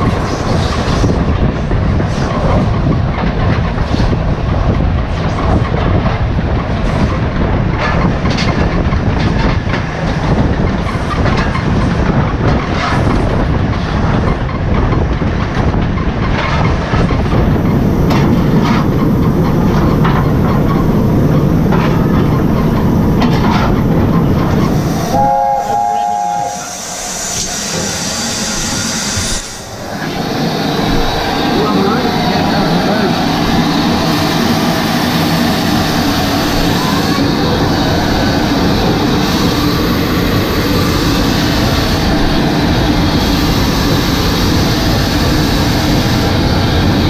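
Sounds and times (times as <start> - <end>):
rail clicks: 0.0 - 47.0
steam locomotive running roar: 0.0 - 47.0.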